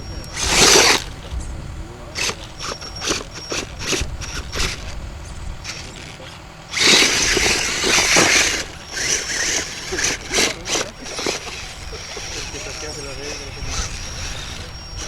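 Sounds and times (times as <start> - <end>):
wind on microphone: 0.0 - 6.1, 6.7 - 15.0
radio-controlled car running: 0.0 - 15.0
wheels churning: 0.0 - 15.0.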